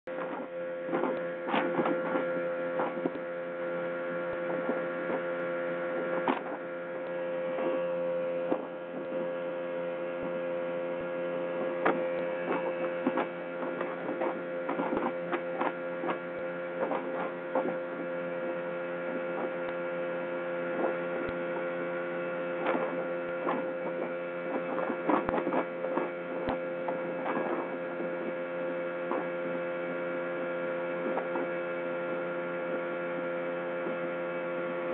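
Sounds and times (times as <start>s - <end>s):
speedboat engine running: 0.0s - 34.9s.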